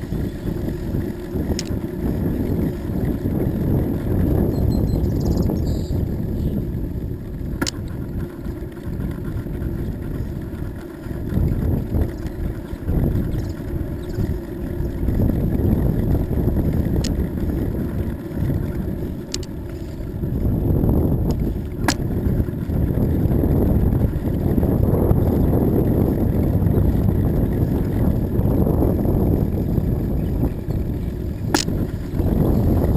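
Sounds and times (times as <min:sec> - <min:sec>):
bicycle clicks: 0:00.0 - 0:06.0, 0:06.6 - 0:32.9
bicycle tyres on asphalt: 0:00.0 - 0:32.9
wind noise on microphone: 0:00.0 - 0:32.9.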